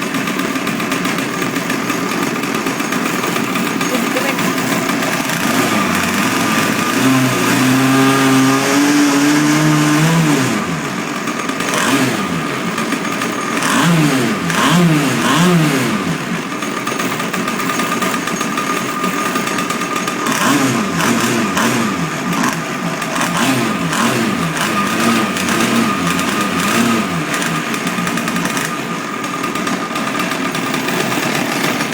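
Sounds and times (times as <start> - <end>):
two-stroke engine revving: 0.0 - 31.9.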